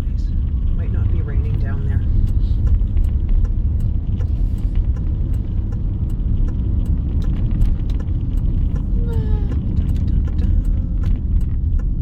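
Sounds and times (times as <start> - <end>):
car road rumble: 0.0 - 12.0
light ticks: 0.5 - 12.0.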